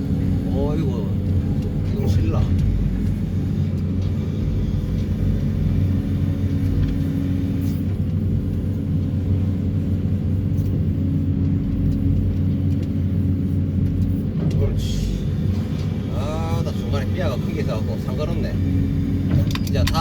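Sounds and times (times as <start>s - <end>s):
vibro hammer and excavator engine drone: 0.0s - 20.0s.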